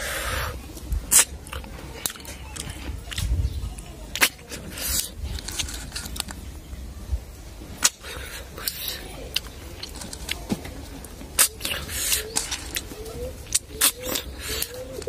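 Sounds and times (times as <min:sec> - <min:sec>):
slurping snails: 0:00.0 - 0:03.3, 0:04.1 - 0:06.4, 0:07.8 - 0:10.4, 0:11.0 - 0:15.0
chewing: 0:01.1 - 0:06.4, 0:07.8 - 0:15.0.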